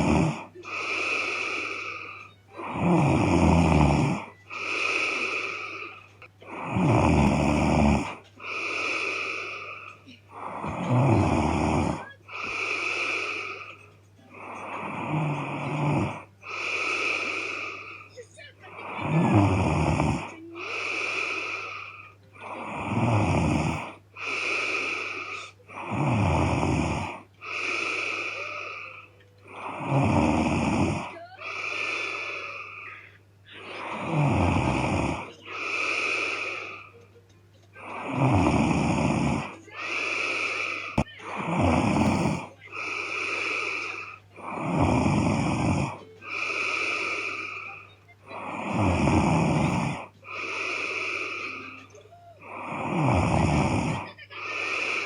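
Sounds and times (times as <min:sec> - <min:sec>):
woman snoring loudly: 0:00.0 - 0:36.9, 0:37.8 - 0:55.0
soft breathing: 0:00.0 - 0:55.0.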